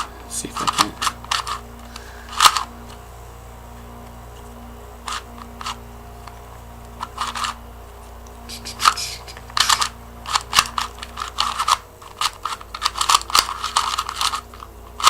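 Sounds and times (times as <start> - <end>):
speed cube plastic clicks: 0.0 - 3.1, 3.9 - 15.0.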